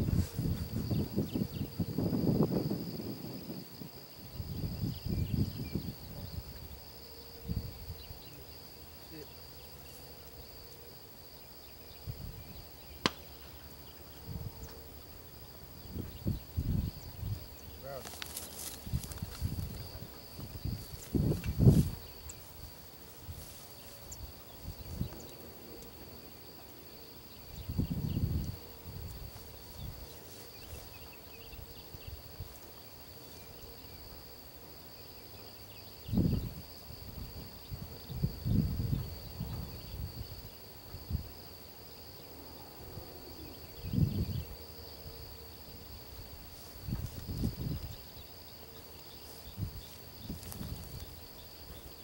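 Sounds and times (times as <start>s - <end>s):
high insect drone: 0.0s - 52.0s.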